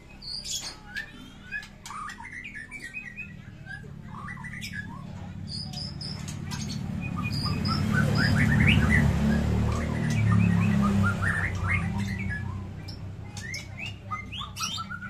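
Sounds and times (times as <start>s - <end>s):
birds singing chirps and whistles: 0.0s - 15.0s.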